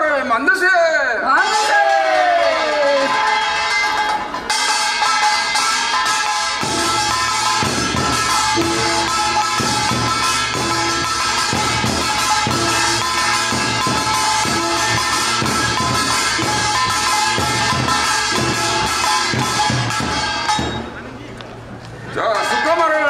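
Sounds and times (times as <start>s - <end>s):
folk music with drums and percussion: 1.9s - 23.0s.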